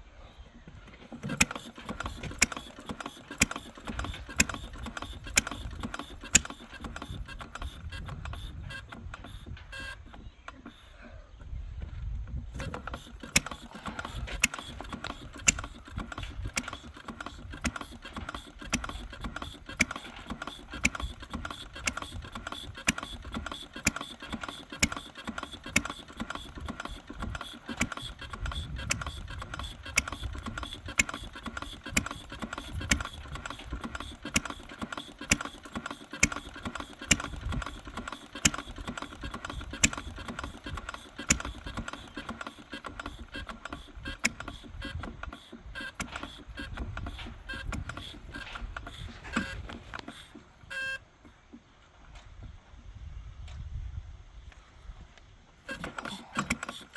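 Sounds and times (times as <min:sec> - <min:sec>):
single-cylinder engine running slowly: 0:00.0 - 0:52.0, 0:55.6 - 0:56.9
clatter of moving parts: 0:00.7 - 0:11.1, 0:12.5 - 0:50.6, 0:55.7 - 0:56.9.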